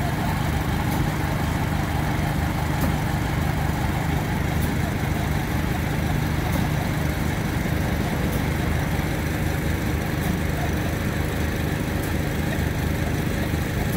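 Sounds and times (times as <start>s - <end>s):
small gas engine running: 0.0s - 13.9s.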